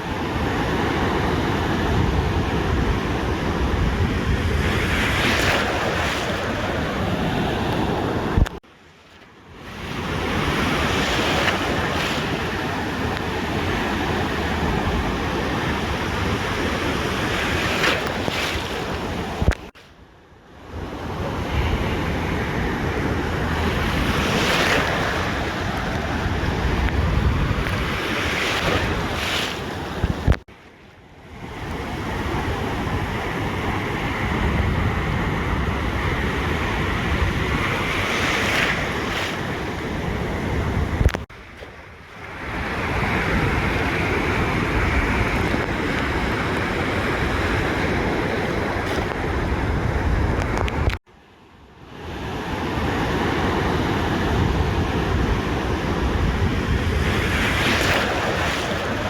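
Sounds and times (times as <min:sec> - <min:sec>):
wind rumbling on microphone: 0:00.0 - 0:08.6, 0:09.6 - 0:19.8, 0:20.7 - 0:30.5, 0:31.2 - 0:51.0, 0:52.1 - 0:59.0
waves breaking on a beach: 0:00.0 - 0:59.0.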